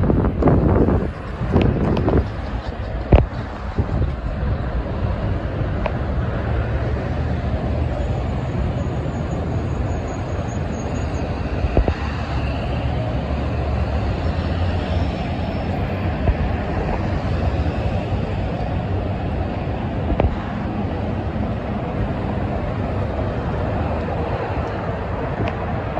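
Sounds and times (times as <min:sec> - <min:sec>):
low rumble of road traffic: 0:00.0 - 0:25.9.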